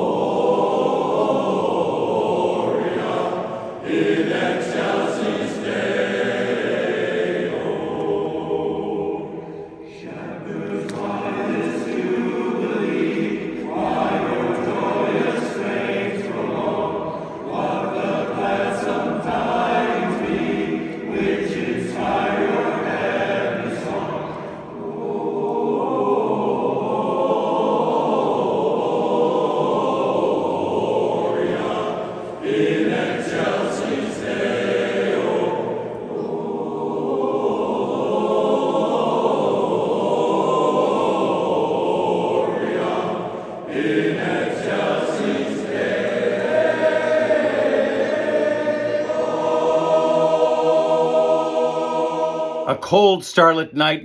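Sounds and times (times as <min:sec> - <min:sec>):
chorus singing close harmony: 0:00.0 - 0:53.5.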